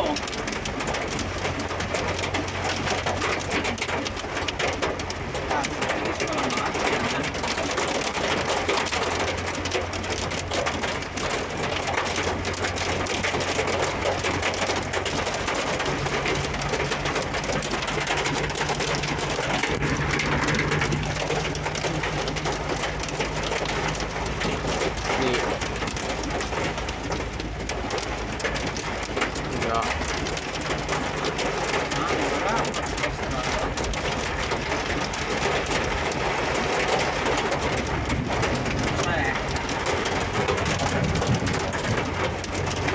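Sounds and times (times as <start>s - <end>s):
car engine hum: 0.0s - 42.9s
heavy rain and hail on car roof: 0.0s - 42.9s.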